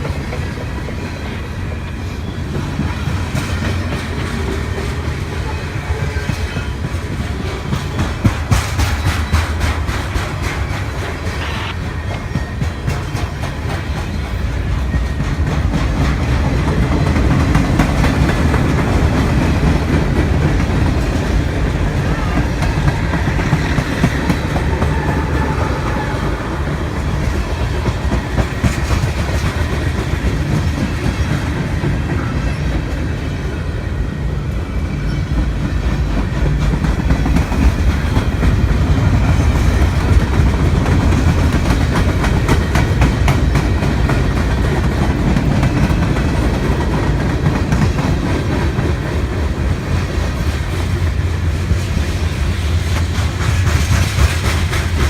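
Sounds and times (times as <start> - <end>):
train rumbling past: 0.0 - 55.0
train wheels clicking over rail joints: 0.0 - 55.0.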